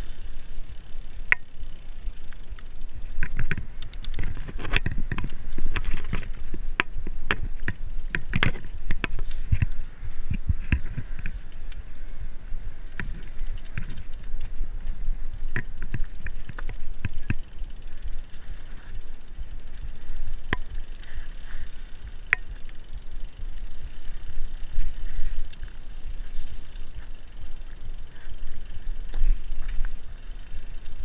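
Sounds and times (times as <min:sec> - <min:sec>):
bike rattling and clicking: 0:00.0 - 0:31.0
bike ride rumble: 0:00.0 - 0:31.0.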